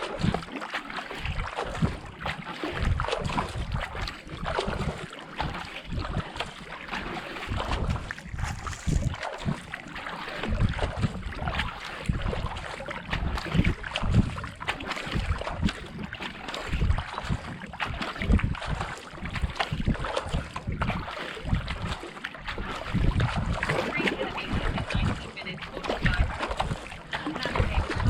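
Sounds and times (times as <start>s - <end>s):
paddle strokes splashing: 0.0s - 28.0s
water rushing along hull: 0.0s - 28.0s
wind buffeting microphone: 2.8s - 6.4s, 7.4s - 9.7s, 10.4s - 28.0s.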